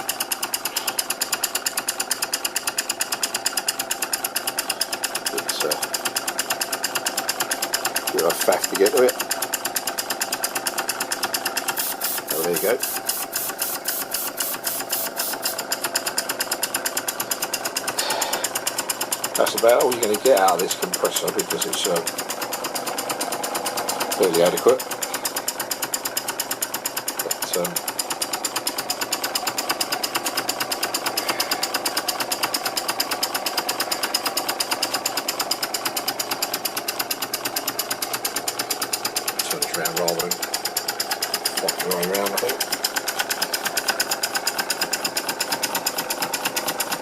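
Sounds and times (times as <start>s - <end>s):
model steam engine exhaust chuffing: 0.0s - 47.0s.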